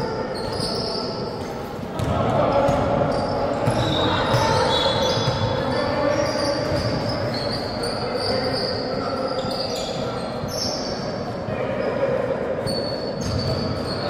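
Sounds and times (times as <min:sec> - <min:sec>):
sneakers squeaking: 0:00.0 - 0:11.9, 0:12.6 - 0:14.0
gym hall noise: 0:00.0 - 0:14.0.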